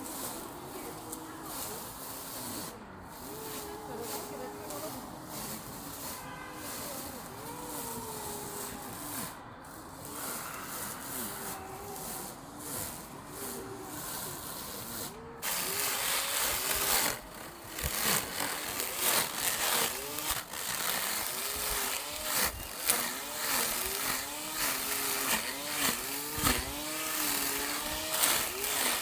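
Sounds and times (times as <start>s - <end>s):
lawn mower cutting grass: 0.0s - 29.0s.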